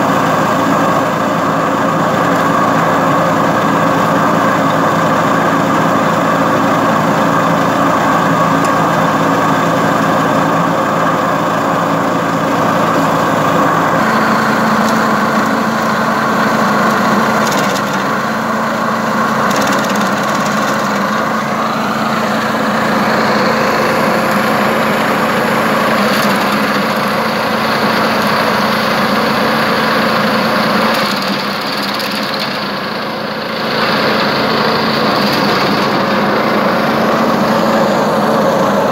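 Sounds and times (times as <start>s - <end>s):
branch chipper engine running: 0.0s - 38.9s.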